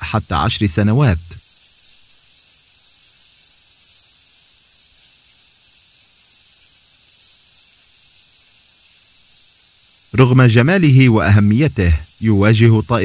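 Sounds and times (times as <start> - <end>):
insects chirping in pulsing trill: 0.0 - 13.0.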